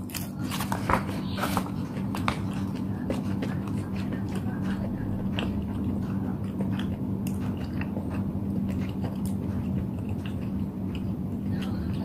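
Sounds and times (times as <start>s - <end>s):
steady low hum: 0.0s - 12.0s
chewing noodles wet clicks: 2.0s - 12.0s.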